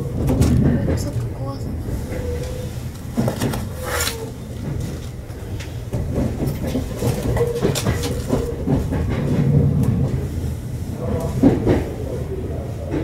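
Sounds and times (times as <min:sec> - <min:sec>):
wheels clicking over rail joints: 0:00.0 - 0:10.4, 0:11.0 - 0:13.0
train rumbling: 0:00.0 - 0:13.0.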